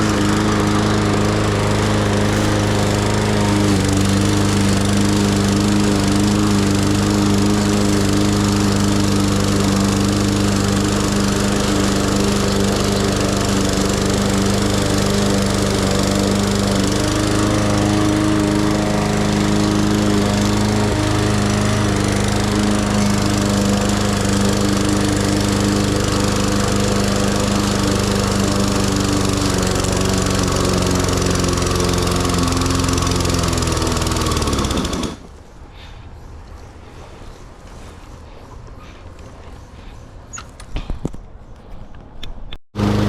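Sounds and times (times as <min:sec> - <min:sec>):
lawn mower engine running: 0:00.0 - 0:35.4, 0:42.8 - 0:43.0.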